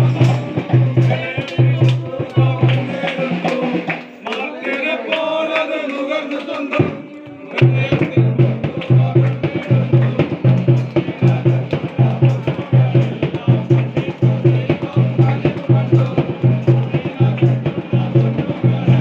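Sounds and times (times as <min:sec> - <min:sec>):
heavy bass beat with percussion: 0:00.0 - 0:04.1, 0:07.6 - 0:19.0
voices: 0:00.0 - 0:19.0.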